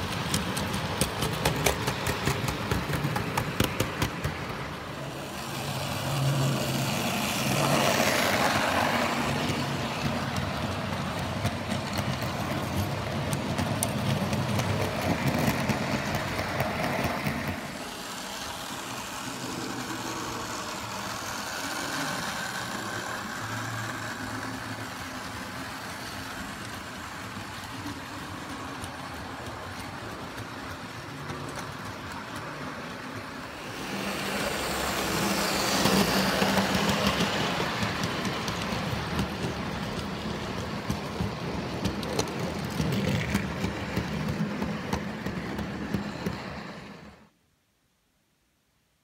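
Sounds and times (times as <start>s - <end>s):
rapid clicking over rail joints: 0.0s - 33.3s, 33.9s - 47.1s
model train wheels rattling: 0.0s - 47.2s.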